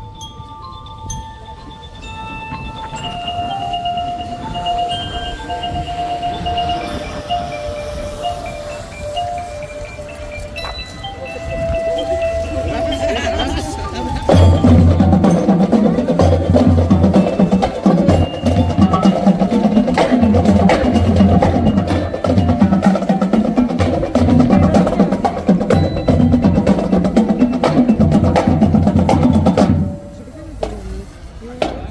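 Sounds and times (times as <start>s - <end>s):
marching band playing: 3.4s - 30.8s.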